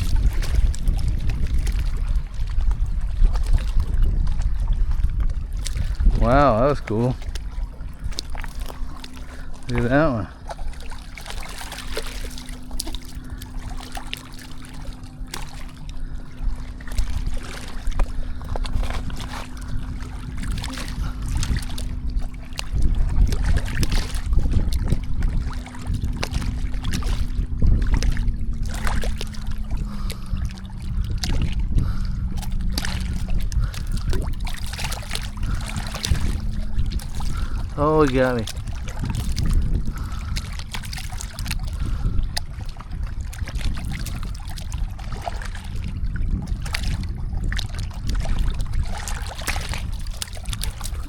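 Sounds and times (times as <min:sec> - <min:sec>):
steady low hum: 0:00.0 - 0:51.0
water splashing and dripping: 0:00.0 - 0:51.0
wind rumbling on microphone: 0:00.0 - 0:51.0.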